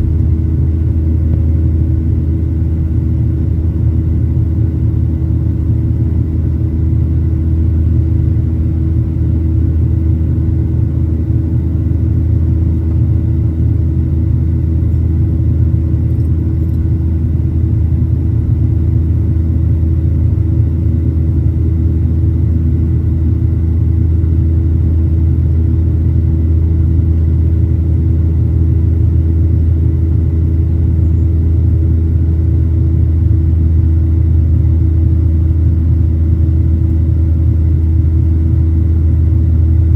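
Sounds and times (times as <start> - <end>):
faint steady whine: 0.0 - 39.9
jet engine cabin rumble: 0.0 - 39.9.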